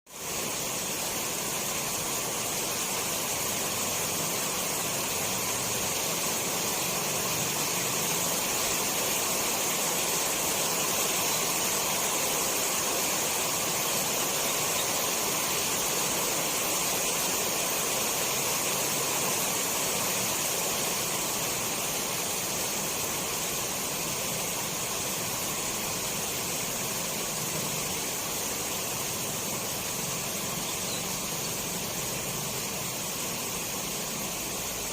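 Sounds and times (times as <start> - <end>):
steady rainfall: 0.1 - 34.9.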